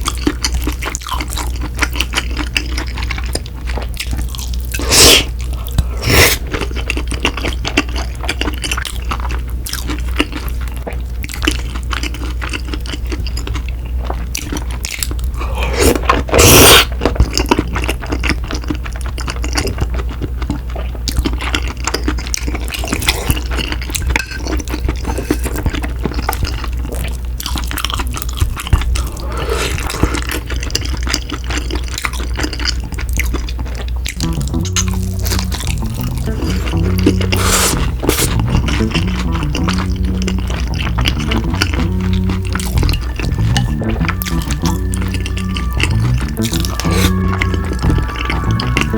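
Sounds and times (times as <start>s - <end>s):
wet sticky chewing: 0.0s - 48.9s.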